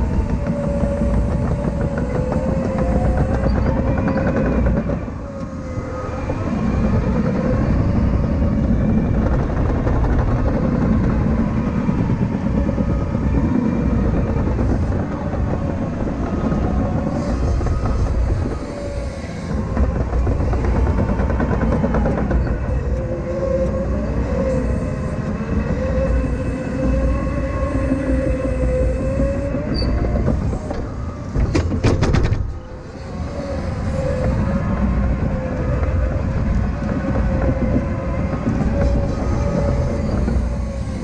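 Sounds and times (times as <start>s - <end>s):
loader engine drone with whine: 0.0s - 41.0s.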